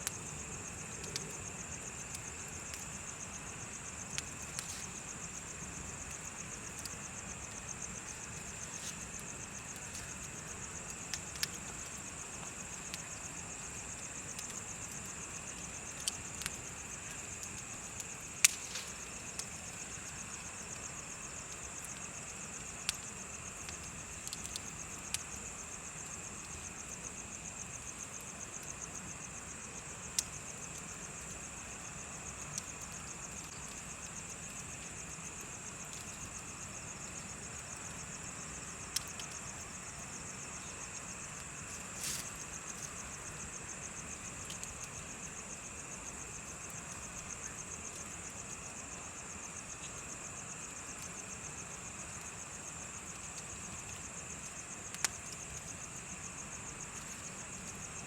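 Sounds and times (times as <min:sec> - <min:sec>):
bonfire crackling and popping: 0:00.0 - 0:58.0
insects chirping: 0:00.0 - 0:58.0.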